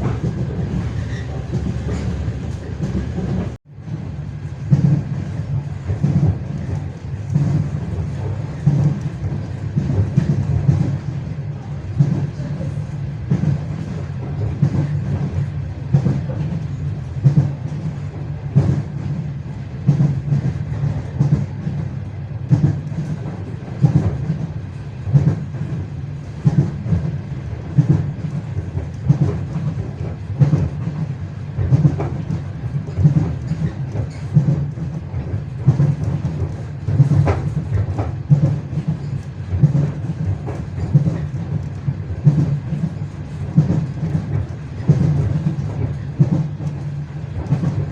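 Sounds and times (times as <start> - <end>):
train wheels clattering over joints: 0.0 - 47.9.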